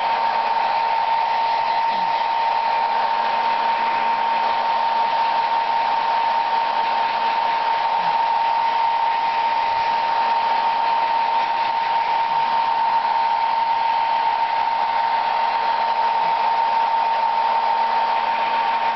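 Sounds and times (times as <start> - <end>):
hair dryer running: 0.0 - 18.9.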